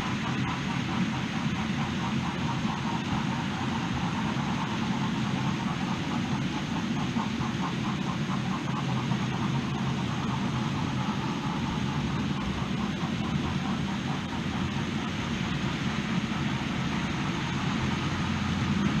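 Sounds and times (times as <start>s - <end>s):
model train motor hum: 0.0s - 19.0s
wheel rumble on track: 0.0s - 19.0s.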